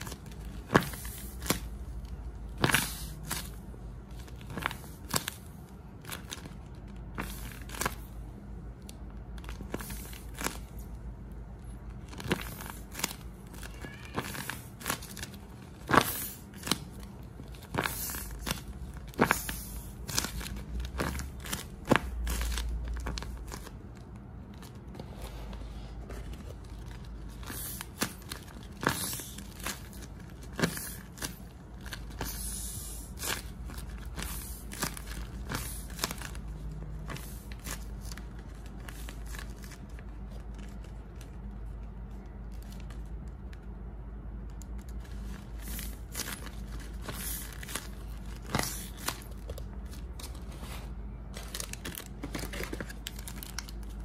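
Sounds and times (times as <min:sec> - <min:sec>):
plastic packaging rustling: 0:00.0 - 0:54.0
tape-covered paper crinkling: 0:00.0 - 0:54.0.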